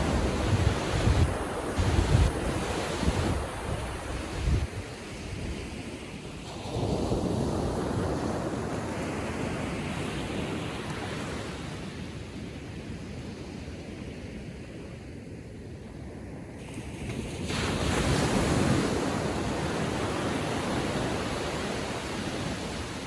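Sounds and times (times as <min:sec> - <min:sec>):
small waves breaking on sand: 0:00.0 - 0:12.4, 0:16.5 - 0:23.0.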